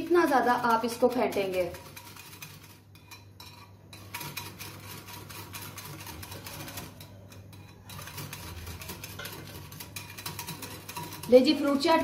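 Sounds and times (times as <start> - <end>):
whisk clicking against glass bowl: 0.0 - 12.0.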